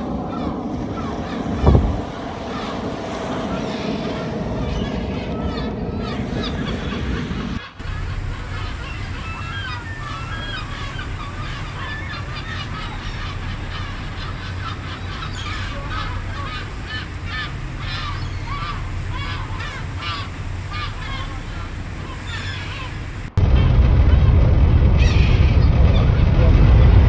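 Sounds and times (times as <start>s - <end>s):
low rumble: 0.0s - 15.2s, 20.3s - 27.0s
gulls calling: 0.0s - 27.0s.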